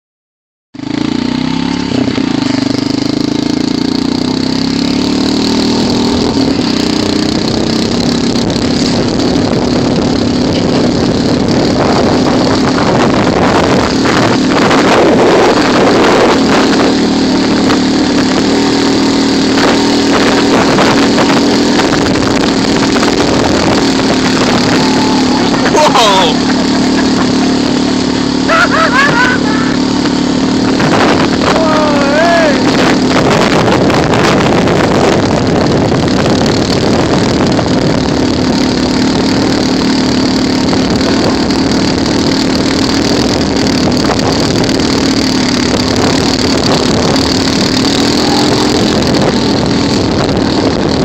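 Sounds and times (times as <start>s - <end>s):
vehicle engine running: 0.8s - 51.0s.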